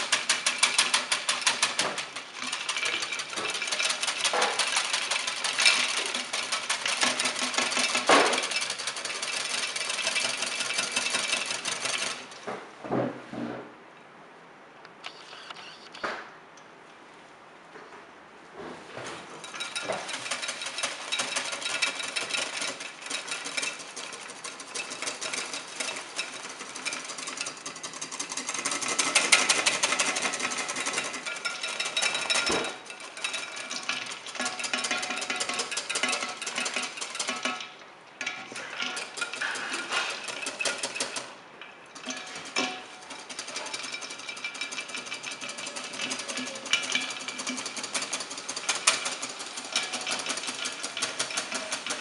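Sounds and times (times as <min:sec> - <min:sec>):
wire whisk clattering in bowl: 0:00.0 - 0:12.4, 0:19.4 - 0:52.0.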